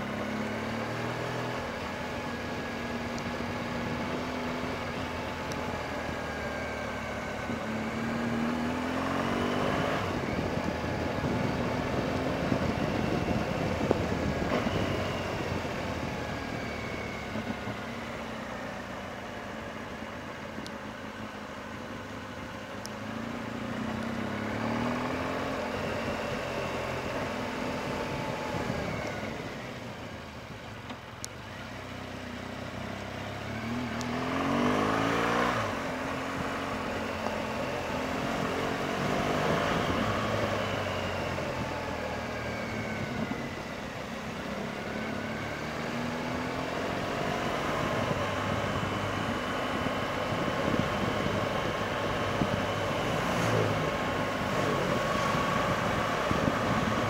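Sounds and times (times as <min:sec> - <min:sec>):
motorcycle engine revving: 0:00.0 - 0:18.6, 0:22.9 - 0:30.3, 0:31.5 - 0:57.0.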